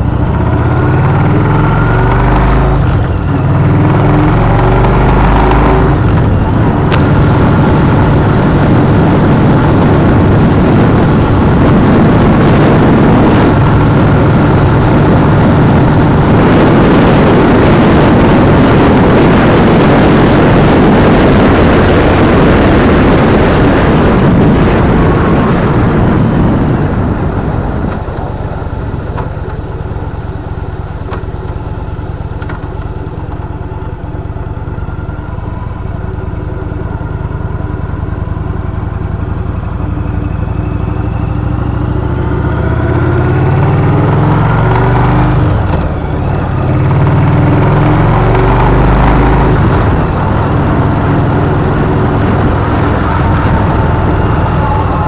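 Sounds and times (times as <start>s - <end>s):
car engine accelerating: 0.0s - 55.0s
wind and road noise: 0.0s - 55.0s.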